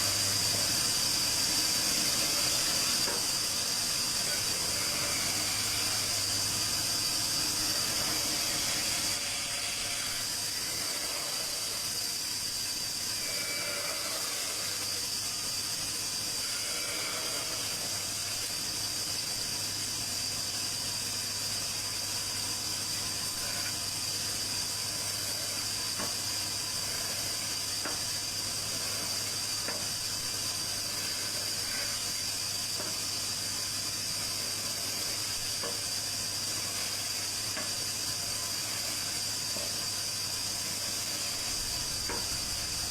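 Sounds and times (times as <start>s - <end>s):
high-pitched hiss: 0.0s - 42.9s.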